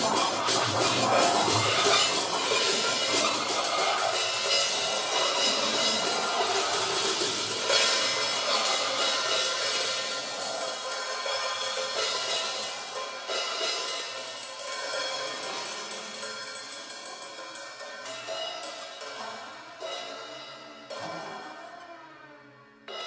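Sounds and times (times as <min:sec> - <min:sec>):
drum kit played with sticks: 0:00.0 - 0:21.9.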